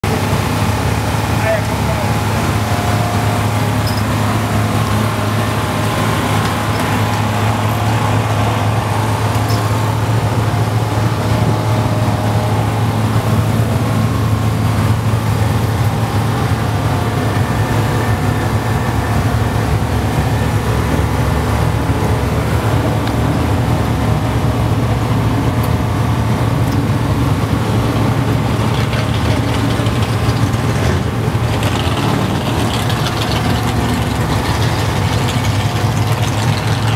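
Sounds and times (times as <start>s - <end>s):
drag car engine idling: 0.0s - 36.9s.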